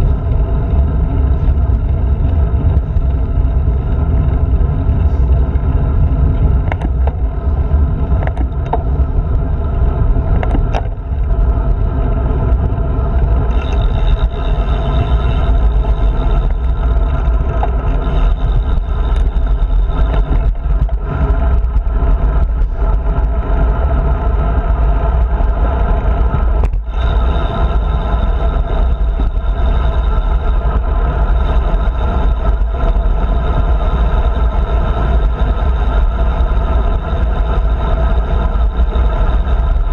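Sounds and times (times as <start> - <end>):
tyre road noise: 0.0 - 39.9
wind rumble on microphone: 0.0 - 39.9.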